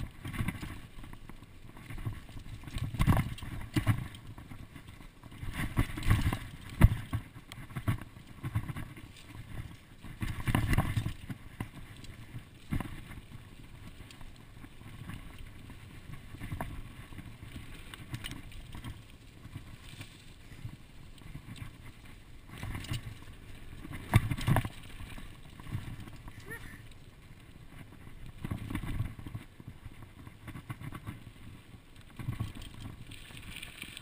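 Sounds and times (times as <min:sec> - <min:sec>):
bike jolts: 0:00.0 - 0:34.0
bike rattling over bumps: 0:00.0 - 0:34.0
bike tyre noise on dirt: 0:00.0 - 0:34.0.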